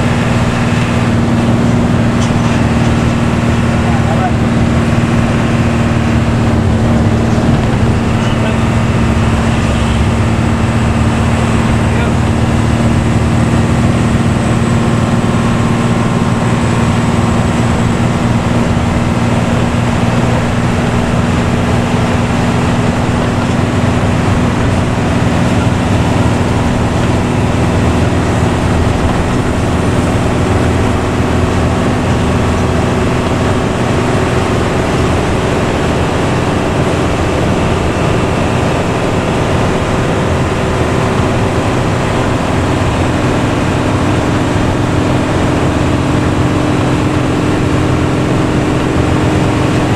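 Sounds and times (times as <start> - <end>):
bus engine drone: 0.0 - 49.9
road noise: 0.0 - 49.9.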